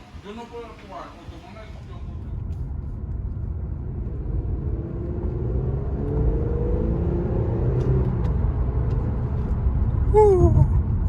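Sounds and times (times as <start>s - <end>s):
car engine accelerating: 2.0s - 11.0s.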